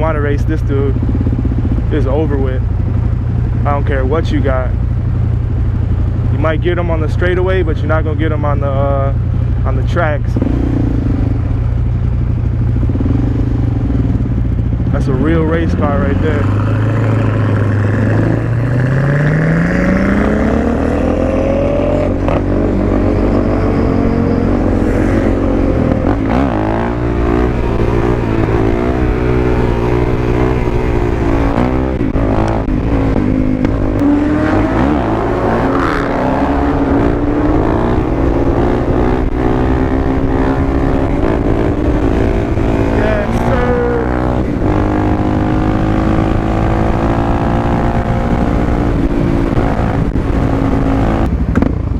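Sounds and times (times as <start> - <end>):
motorcycle engine revving: 0.0 - 51.9
traffic noise: 0.0 - 51.9.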